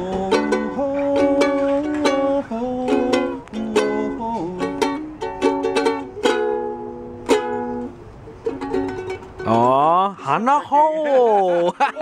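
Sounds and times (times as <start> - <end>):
ukulele strummed and picked: 0.0 - 10.0.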